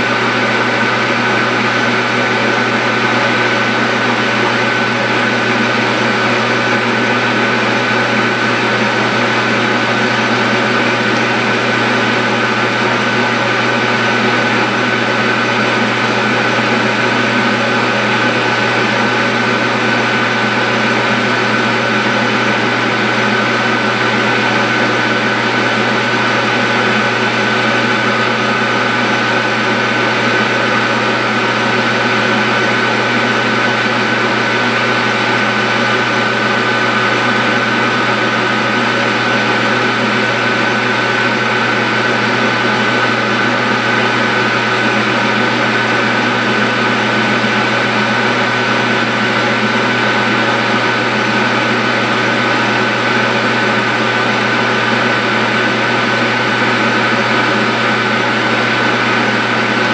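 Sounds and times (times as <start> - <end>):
metal lathe running: 0.0 - 59.9.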